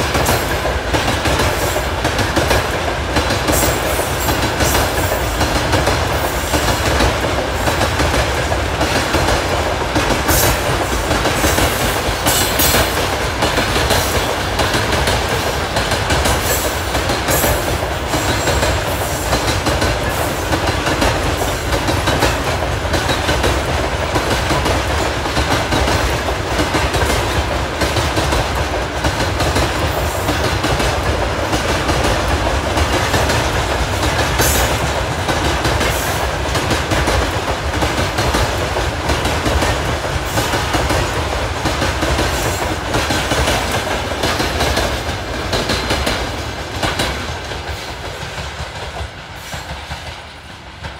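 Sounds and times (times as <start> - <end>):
freight train rumbling: 0.0 - 50.9
wheels clacking over rail joints: 0.0 - 50.9.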